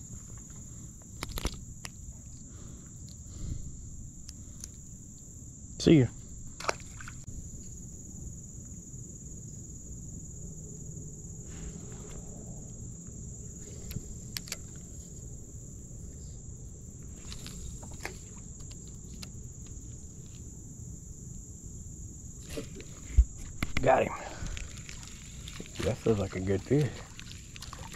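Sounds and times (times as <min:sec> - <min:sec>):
insects droning: 0:00.0 - 0:27.9.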